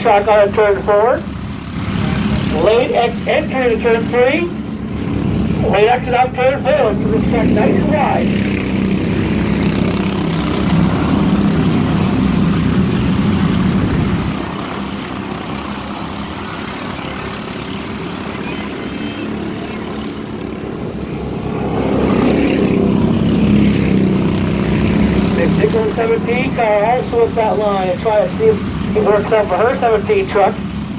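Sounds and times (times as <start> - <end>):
race truck engines: 0.0 - 30.9.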